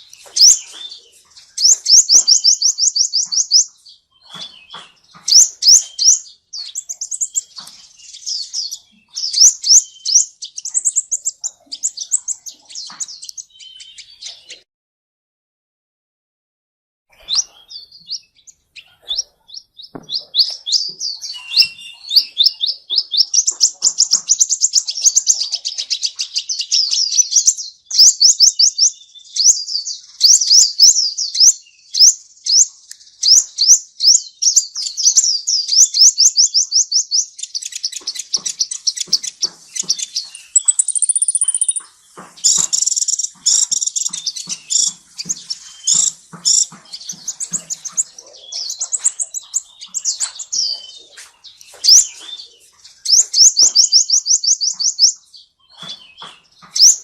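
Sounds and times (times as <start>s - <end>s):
songbird singing fast chirps: 0.0s - 14.6s, 17.1s - 57.0s.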